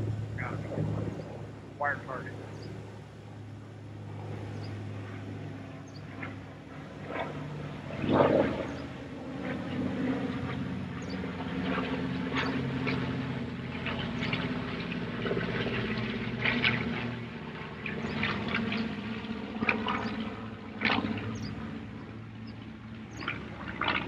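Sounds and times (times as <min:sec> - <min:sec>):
propeller aircraft engines droning: 0:00.0 - 0:24.0.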